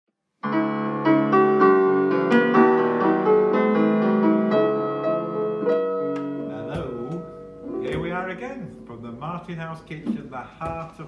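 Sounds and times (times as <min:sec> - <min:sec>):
gentle piano melody: 0:00.4 - 0:11.0.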